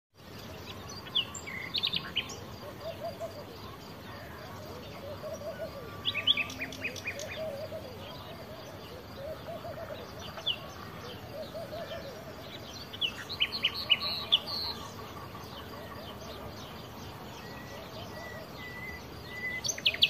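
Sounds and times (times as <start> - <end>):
birds chirping and trilling: 0.2 - 20.0
lower repeated bird calls: 0.3 - 20.0.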